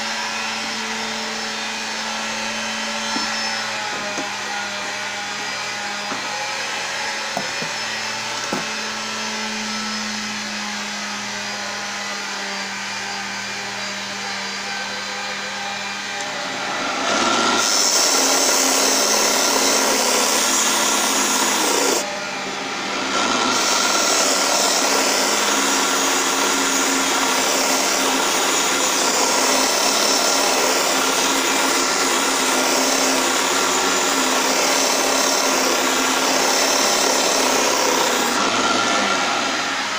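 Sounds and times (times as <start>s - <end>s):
wood lathe motor running: 0.0s - 39.9s.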